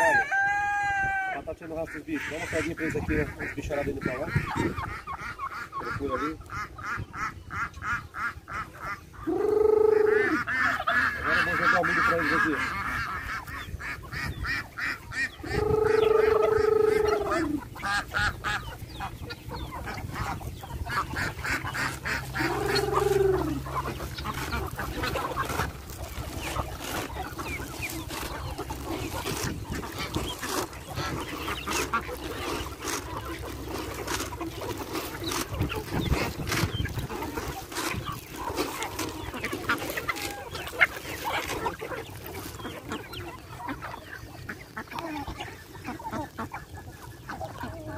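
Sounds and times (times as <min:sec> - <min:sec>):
poultry calling: 0:00.0 - 0:47.9.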